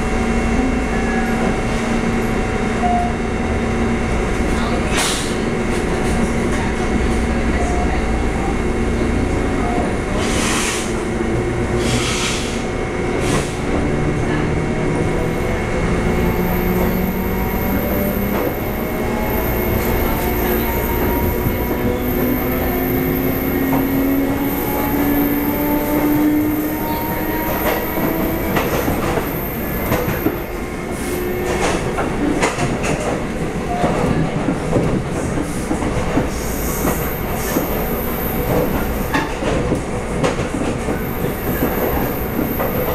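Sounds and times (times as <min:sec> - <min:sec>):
train wheels rumbling: 0:00.0 - 0:42.9.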